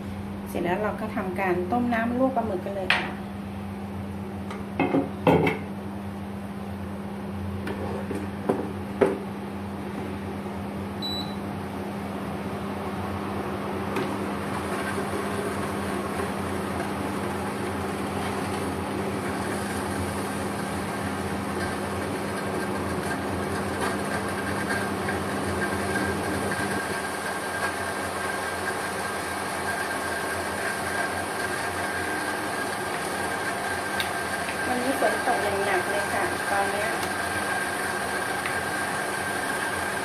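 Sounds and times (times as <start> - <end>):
cooktop electrical hum: 0.0 - 40.0
cooling fan: 0.0 - 40.0.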